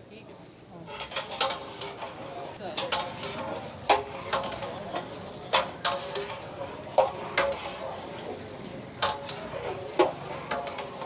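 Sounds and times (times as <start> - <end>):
metal rod clanking against pot: 0.9 - 11.0.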